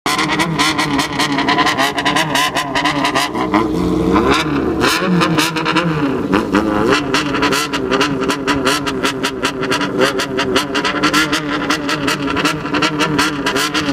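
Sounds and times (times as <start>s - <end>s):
loud engine exhaust revving: 0.1s - 13.9s.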